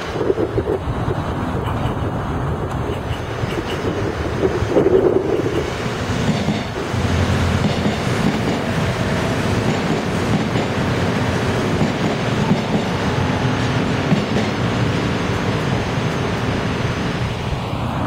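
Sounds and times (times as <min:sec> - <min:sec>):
electric train passing: 0:00.0 - 0:18.0
rumble of wheels on rails: 0:00.0 - 0:18.0.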